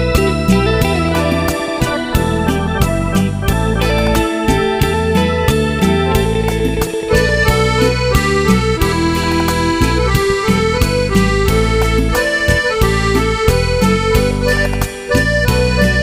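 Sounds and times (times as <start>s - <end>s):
reedy melody: 0.0s - 16.0s
steady regular beat: 0.0s - 16.0s.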